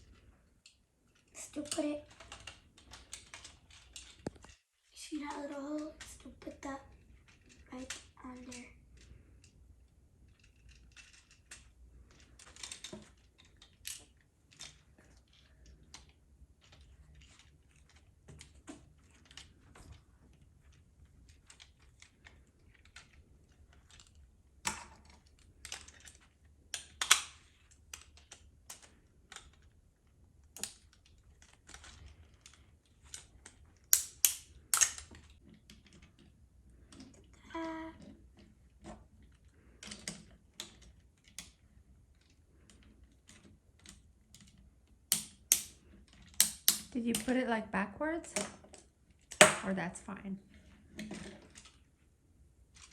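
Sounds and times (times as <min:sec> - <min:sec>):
plastic toy parts clicking: 0:00.0 - 0:04.6, 0:05.2 - 0:47.4.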